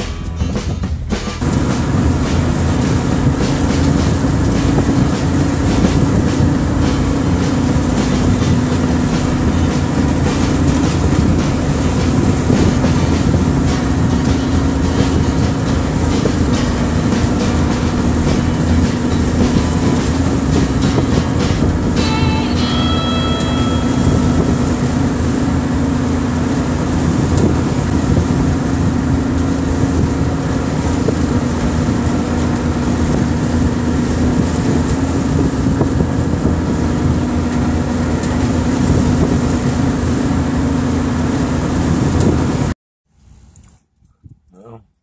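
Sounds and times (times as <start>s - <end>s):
vehicle road and engine noise: 0.0s - 42.8s
constant low hum: 1.4s - 42.4s.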